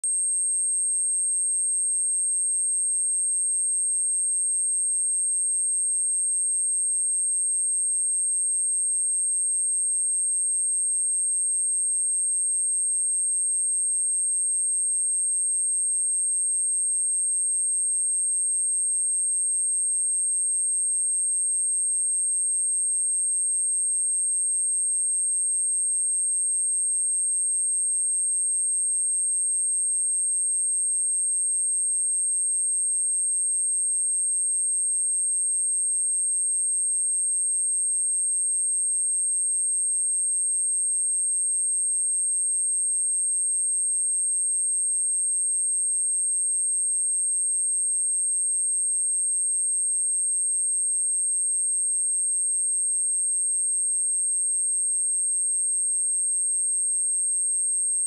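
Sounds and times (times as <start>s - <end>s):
high-pitched sine test tone: 0.0s - 58.0s.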